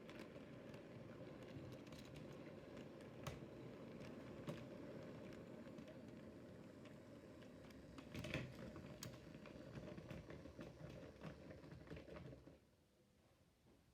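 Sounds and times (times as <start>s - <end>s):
wheels clicking on track: 0.0s - 12.6s.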